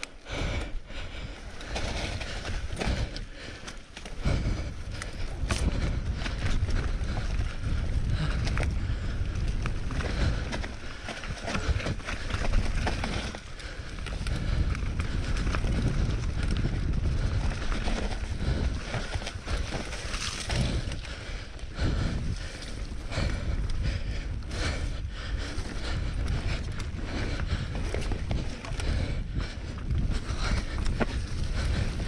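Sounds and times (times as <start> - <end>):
bike rattling: 0.0 - 32.0
bike tyres rumbling over dirt: 0.0 - 32.0
wind buffeting microphone: 0.0 - 32.0.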